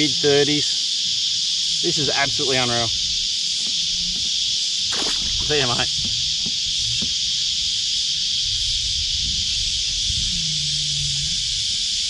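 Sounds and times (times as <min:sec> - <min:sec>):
cicada chorus drone: 0:00.0 - 0:12.0.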